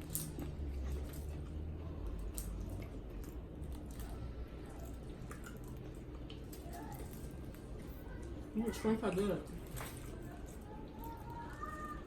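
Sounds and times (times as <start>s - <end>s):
chewing and wet mouth sounds: 0.0s - 12.0s
steady low hum: 0.0s - 12.0s.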